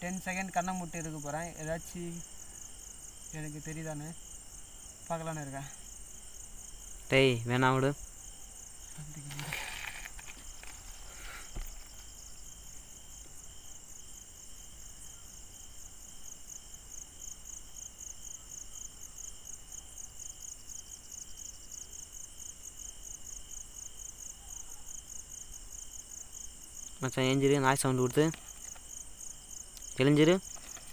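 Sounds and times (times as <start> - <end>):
crickets chirping: 0.0 - 30.9
insect trill: 0.0 - 30.9.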